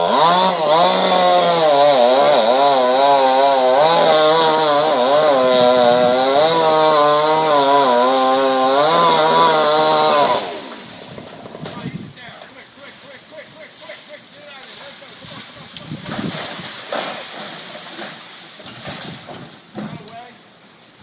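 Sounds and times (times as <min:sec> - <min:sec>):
chainsaw cutting wood: 0:00.0 - 0:20.2.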